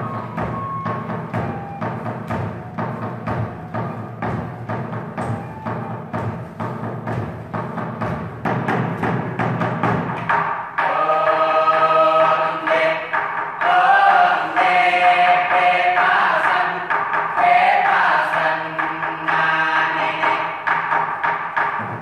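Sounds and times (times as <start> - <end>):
choir singing held chords: 0.0 - 8.3, 10.6 - 21.3
sharp percussive beats: 0.0 - 22.0.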